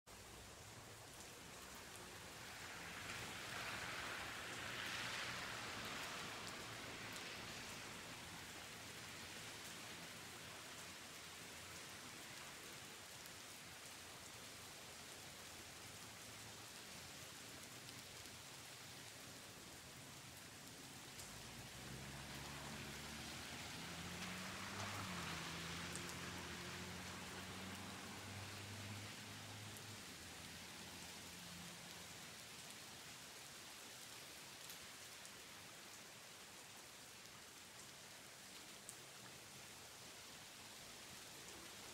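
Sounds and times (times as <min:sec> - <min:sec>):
rain falling: 0:00.1 - 0:41.9.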